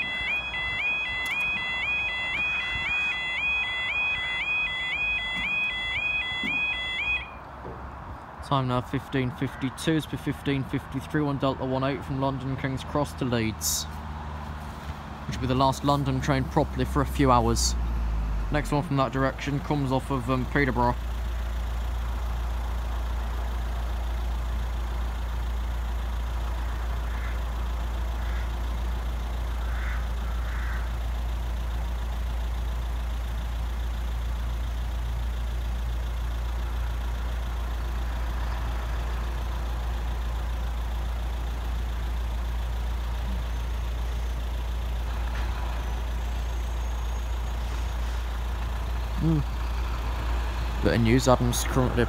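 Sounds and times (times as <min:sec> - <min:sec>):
engine idling: 0:00.0 - 0:07.8, 0:09.0 - 0:52.0.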